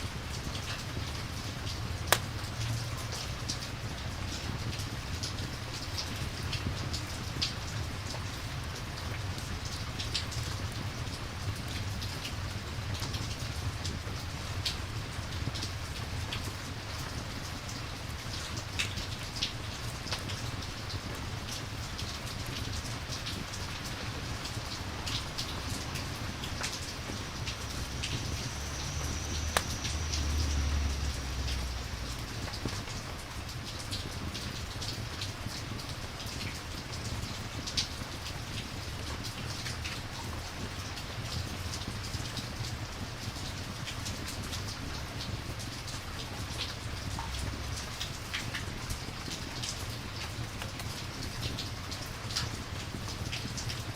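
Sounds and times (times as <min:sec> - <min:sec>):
campfire crackling: 0:00.0 - 0:53.7
rain patter: 0:00.0 - 0:53.9.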